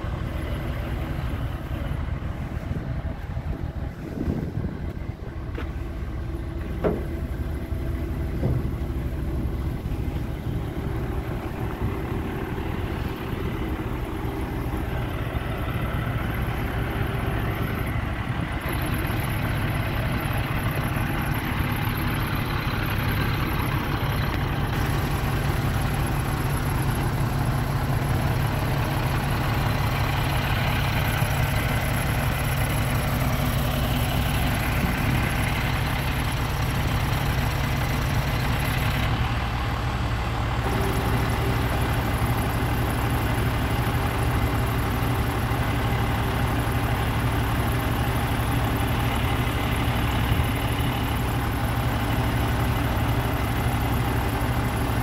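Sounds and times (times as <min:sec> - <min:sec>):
diesel engine running: 0:00.0 - 0:55.0
engine hiss: 0:00.0 - 0:55.0.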